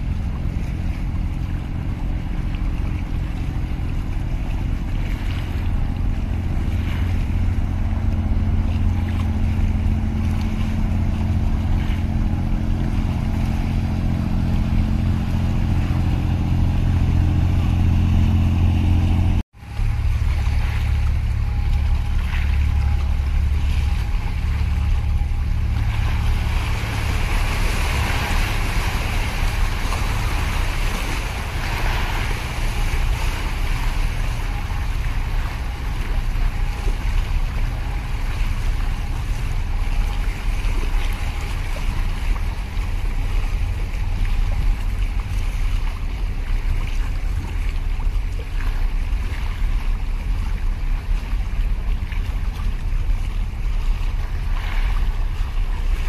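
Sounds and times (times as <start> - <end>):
boat engine droning: 0.0 - 56.0
waves sloshing against concrete: 0.0 - 56.0
wind rumble on microphone: 0.0 - 56.0.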